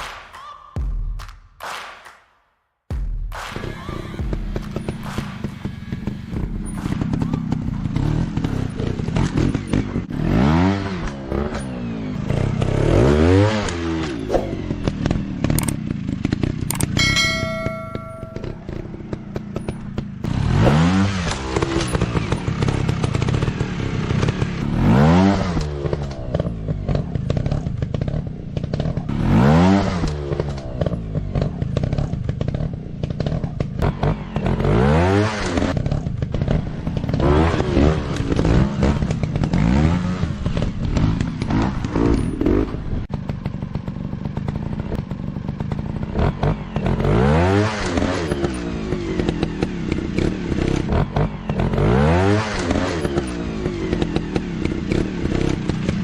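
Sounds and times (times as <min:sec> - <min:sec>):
dirt bike engine revving: 0:04.2 - 0:56.0.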